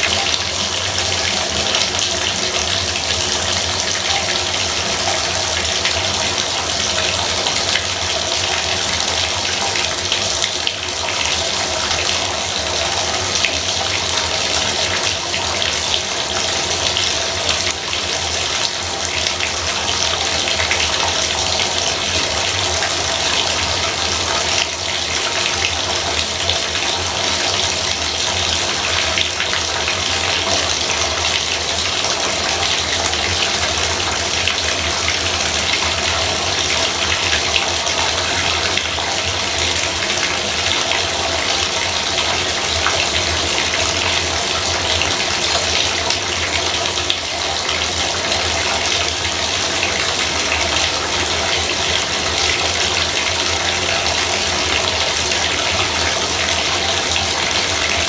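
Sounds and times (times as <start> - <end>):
bathtub faucet running: 0.0 - 58.0.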